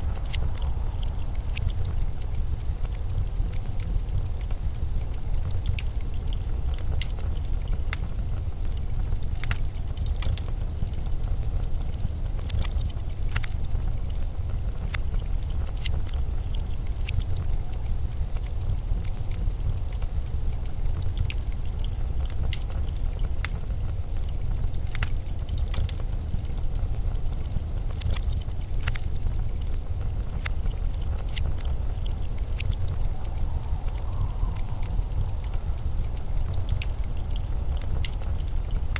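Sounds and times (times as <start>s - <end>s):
blizzard wind rumbling: 0.0s - 38.9s
light crackles and ticks: 0.0s - 38.9s.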